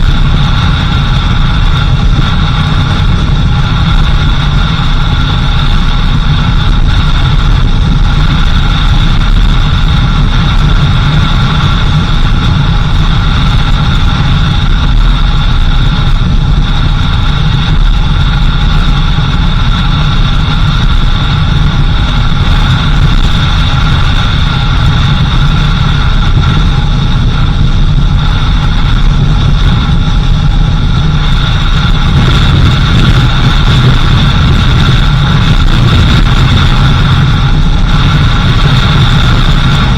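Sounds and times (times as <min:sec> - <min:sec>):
car engine with road noise: 0:00.0 - 0:39.9.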